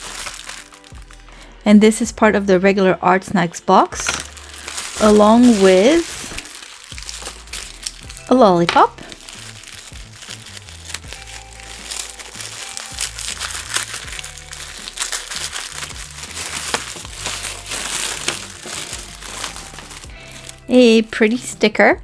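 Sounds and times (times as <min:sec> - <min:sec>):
tissue paper crinkling: 0:00.0 - 0:01.5, 0:03.9 - 0:21.5
background music with low notes: 0:00.0 - 0:22.0.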